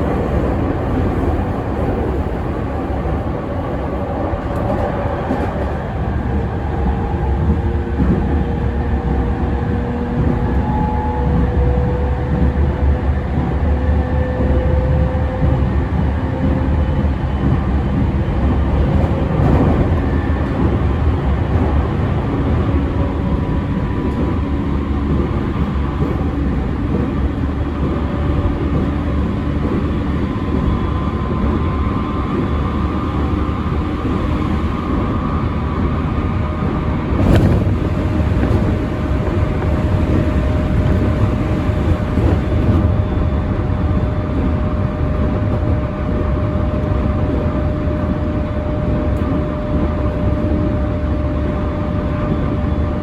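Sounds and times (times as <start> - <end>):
electric train running rumble: 0.0 - 53.0.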